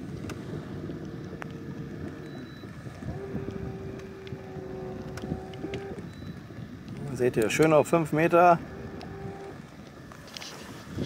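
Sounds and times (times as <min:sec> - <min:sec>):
faint motor hum: 0:00.0 - 0:11.0
water noise: 0:00.0 - 0:11.0
wind on microphone: 0:00.0 - 0:11.0.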